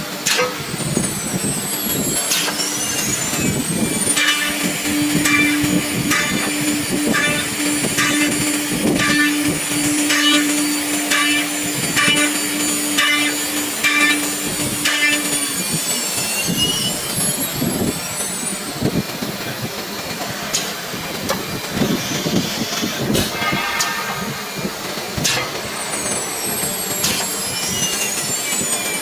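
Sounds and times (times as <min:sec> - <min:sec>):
high spindle whine: 0:00.0 - 0:29.0
router machine hum: 0:00.0 - 0:29.0.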